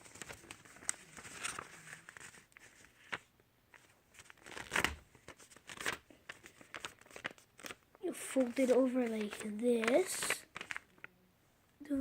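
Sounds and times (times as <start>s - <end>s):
paper being folded and creased: 0.0s - 11.1s.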